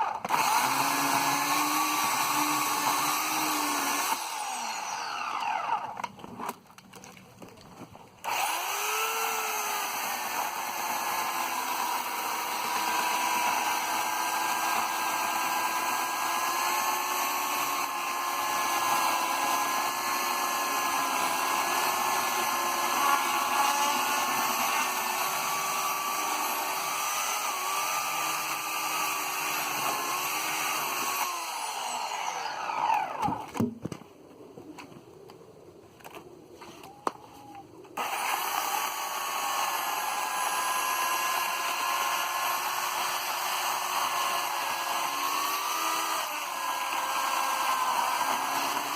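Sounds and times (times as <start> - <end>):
electric chainsaw motor whine: 0.0 - 6.0, 8.2 - 33.5, 38.0 - 48.9.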